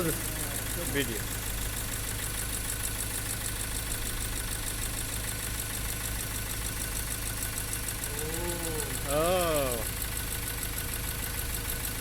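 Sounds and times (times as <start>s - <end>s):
diesel engine idling with ticking knock: 0.0s - 12.0s.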